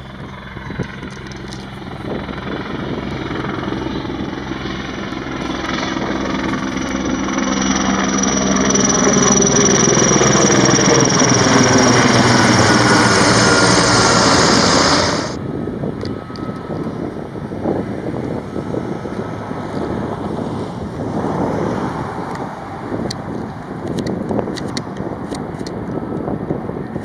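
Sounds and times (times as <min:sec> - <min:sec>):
high turbine whine: 0:00.0 - 0:26.9
helicopter rotor beat: 0:00.0 - 0:27.0.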